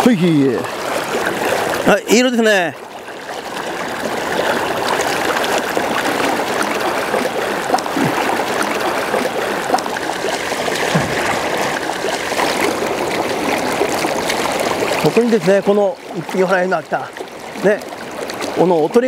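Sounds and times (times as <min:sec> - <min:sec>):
river rapids rushing: 0:00.0 - 0:15.6.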